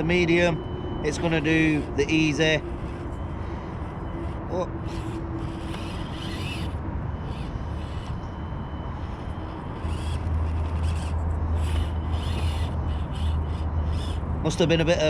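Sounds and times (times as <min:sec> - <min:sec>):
small electric motor whining: 0:00.0 - 0:14.9.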